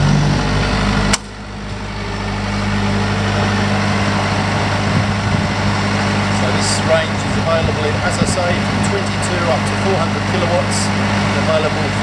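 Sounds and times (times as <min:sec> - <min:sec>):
diesel generator humming: 0:00.0 - 0:12.0.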